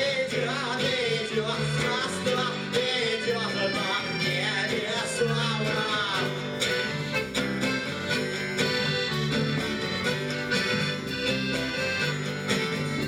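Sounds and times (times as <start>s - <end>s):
instrumental melody over a beat: 0.0s - 13.0s.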